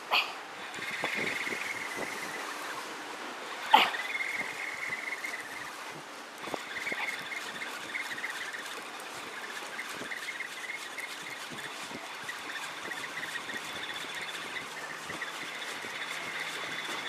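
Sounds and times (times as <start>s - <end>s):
waves: 0.0s - 17.0s
wind: 0.0s - 17.0s
fishing reel gears whirring: 0.6s - 2.6s, 3.6s - 5.7s, 6.4s - 17.0s.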